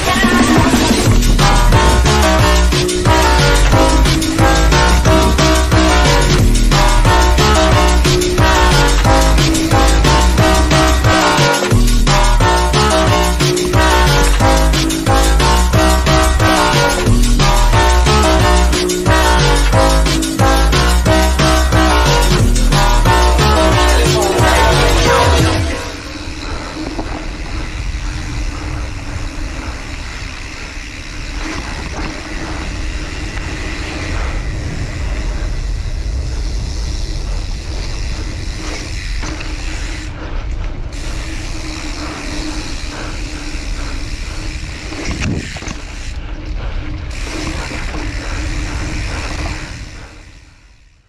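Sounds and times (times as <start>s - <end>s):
wind rushing over microphone: 0.0s - 19.2s, 21.8s - 51.0s
bike rattling over bumps: 0.0s - 51.0s
bike tyres rolling on dirt: 0.0s - 51.0s.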